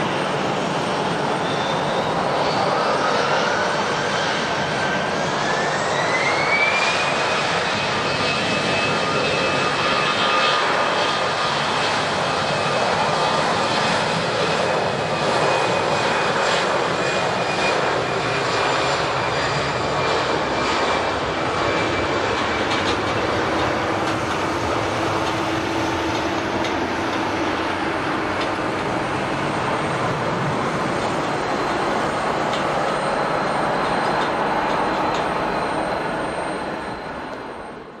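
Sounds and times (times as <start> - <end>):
airliner engines running: 0.0 - 38.0.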